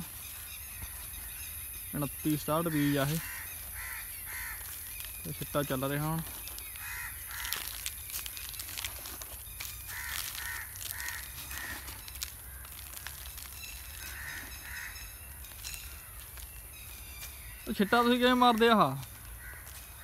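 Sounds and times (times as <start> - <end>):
footsteps on soil: 0.0 - 20.0
crows cawing: 2.6 - 16.6, 17.3 - 20.0.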